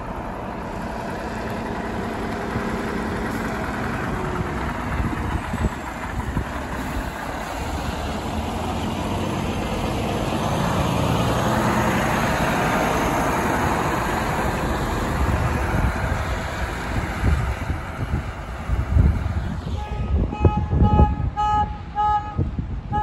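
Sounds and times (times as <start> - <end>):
lorry diesel engine driving past: 0.0 - 23.0.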